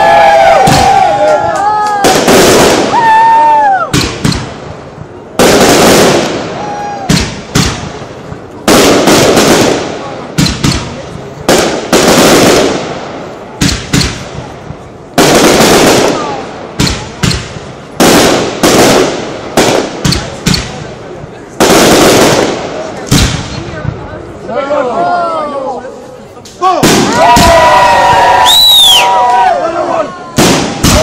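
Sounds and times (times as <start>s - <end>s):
fireworks bursting: 0.0s - 24.4s, 26.4s - 29.4s, 30.2s - 31.0s.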